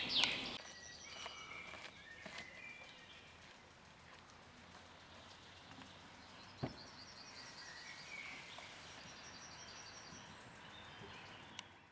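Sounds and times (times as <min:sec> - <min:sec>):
faint outdoor hiss: 0:00.0 - 0:11.9
songbird chirping: 0:00.0 - 0:11.9.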